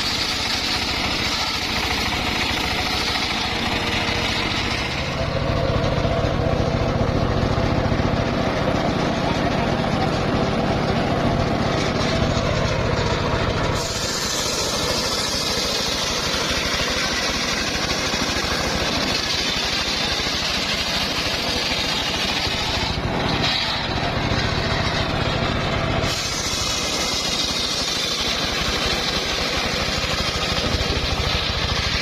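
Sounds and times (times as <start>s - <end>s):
engine drone: 0.0s - 32.0s
saw blade whine cutting wood: 0.0s - 32.0s.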